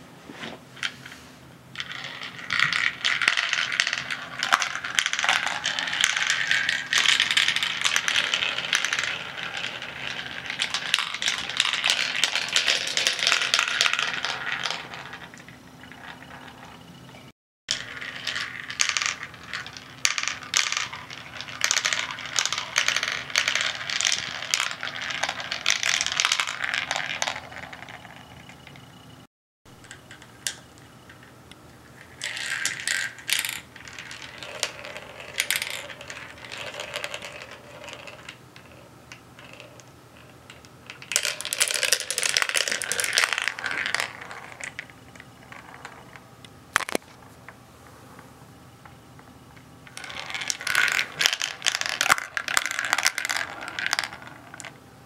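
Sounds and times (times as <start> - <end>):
marbles rattling down plastic run: 1.8 - 16.8, 17.7 - 28.6, 32.0 - 38.8, 39.4 - 47.0, 49.9 - 54.7.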